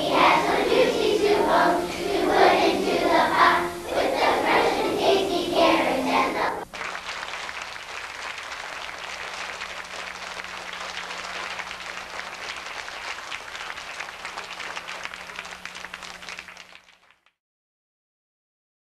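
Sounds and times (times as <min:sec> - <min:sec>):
audience applauding: 0:00.0 - 0:17.3.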